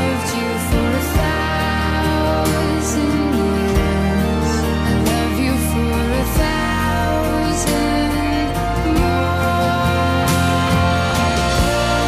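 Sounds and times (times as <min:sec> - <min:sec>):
bass line: 0:00.0 - 0:12.0
instrumental chords: 0:00.0 - 0:12.0
soft singing voice: 0:00.0 - 0:12.0.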